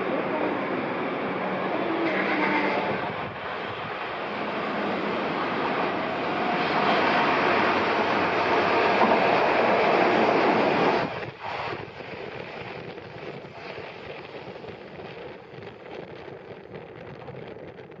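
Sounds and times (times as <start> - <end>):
electric train rushing past: 0.0 - 16.6
train rumble: 0.0 - 18.0.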